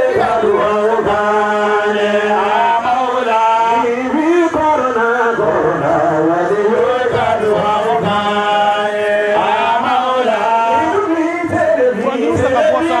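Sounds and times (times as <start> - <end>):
men chanting devotional song: 0.0 - 13.0.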